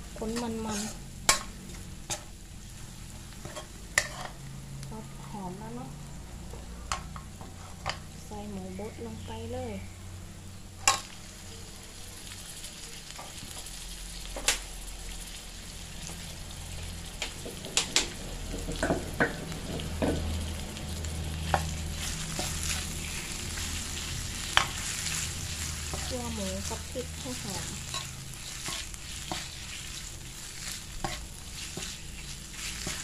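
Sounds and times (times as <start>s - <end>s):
meat sizzling in a wok: 0.0s - 33.0s.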